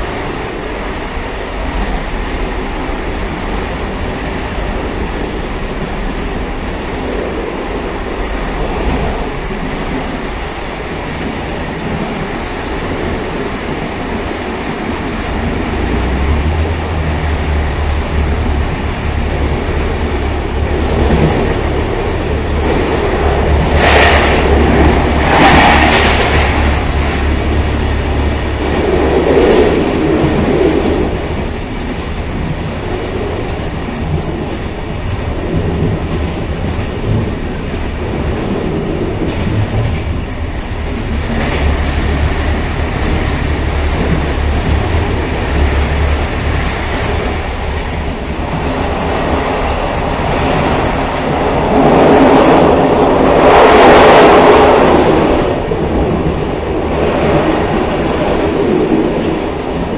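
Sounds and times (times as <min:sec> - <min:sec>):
railcar rumbling on rails: 0:00.0 - 0:59.9
wheels clicking over track: 0:00.1 - 0:59.9.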